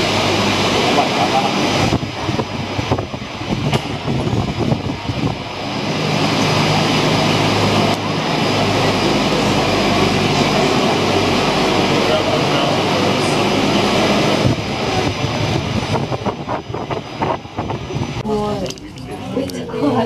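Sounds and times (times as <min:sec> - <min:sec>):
cable car machinery drone: 0:00.0 - 0:20.0.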